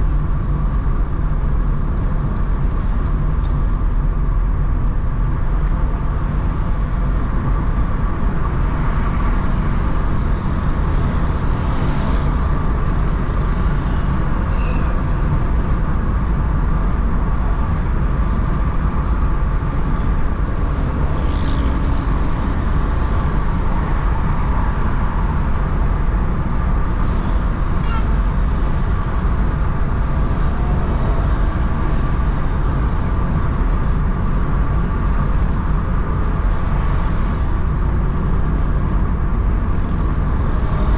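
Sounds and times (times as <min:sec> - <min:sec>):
car engine and tyres rumbling: 0:00.0 - 0:40.9
faint surrounding traffic sounds: 0:00.0 - 0:40.9.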